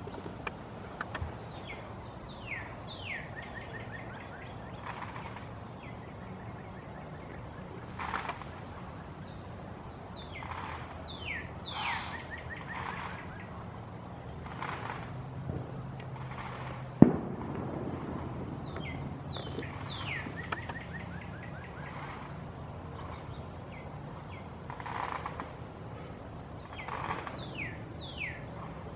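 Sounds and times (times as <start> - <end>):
birds calling down-slurred notes: 0.0 - 15.4, 18.5 - 28.9
steady low hum: 0.0 - 28.9.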